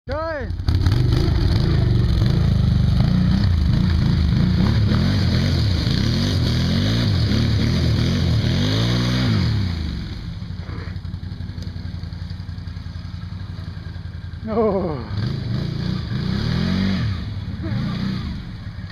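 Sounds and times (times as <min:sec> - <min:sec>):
atv engine revving: 0:00.5 - 0:18.9.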